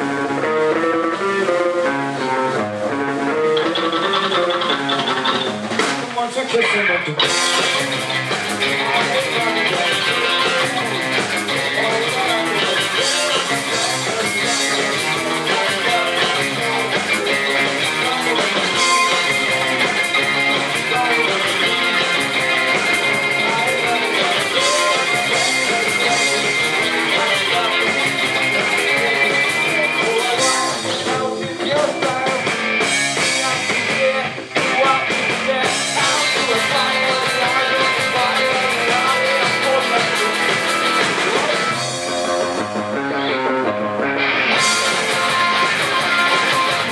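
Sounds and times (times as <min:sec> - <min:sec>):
rock band instrumental: 0:00.0 - 0:46.9.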